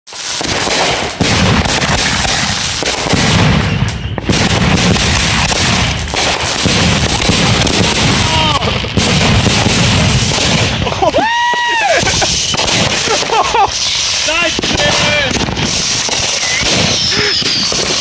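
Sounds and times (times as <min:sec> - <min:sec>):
fireworks bangs and crackling: 0:00.1 - 0:18.0
loud firework reports: 0:00.1 - 0:18.0.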